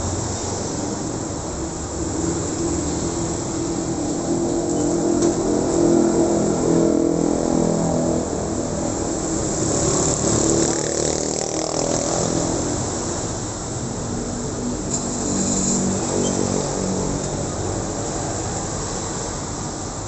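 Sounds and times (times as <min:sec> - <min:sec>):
motorcycles and scooters passing: 0:00.1 - 0:19.5.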